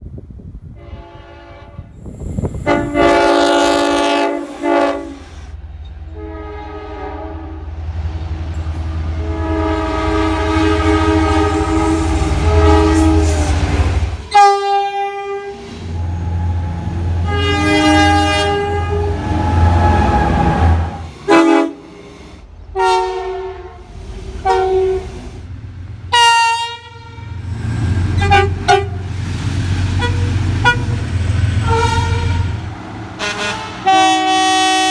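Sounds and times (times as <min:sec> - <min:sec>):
rumble of passing train: 0:00.0 - 0:34.9
locomotive air horn blasts: 0:00.8 - 0:05.5, 0:06.1 - 0:07.7, 0:08.7 - 0:21.9, 0:22.7 - 0:25.3, 0:26.1 - 0:27.5, 0:28.1 - 0:29.0, 0:30.0 - 0:31.0, 0:31.6 - 0:34.9.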